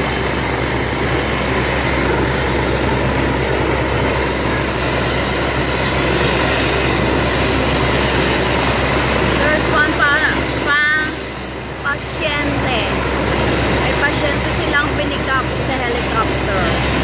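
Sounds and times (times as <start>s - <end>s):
helicopter turbine whine: 0.0s - 17.0s
rotor and engine drone: 0.0s - 17.0s.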